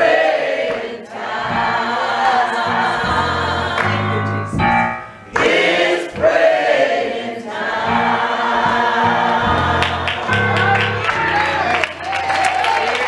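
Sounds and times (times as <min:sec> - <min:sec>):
gospel choir singing: 0:00.0 - 0:12.1.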